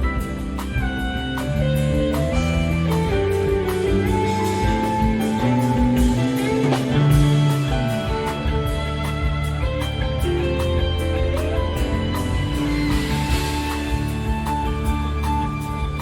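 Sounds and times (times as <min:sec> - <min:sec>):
bass: 0:00.0 - 0:16.0
rock band playing: 0:00.0 - 0:16.0
steady drum beat: 0:00.0 - 0:16.0.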